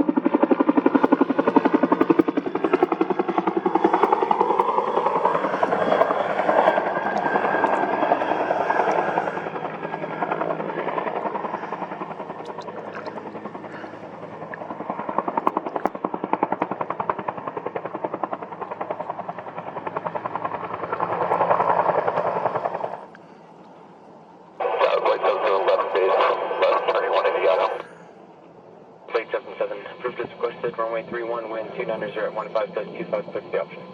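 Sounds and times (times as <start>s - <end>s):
helicopter rotor beating: 0.0s - 33.9s.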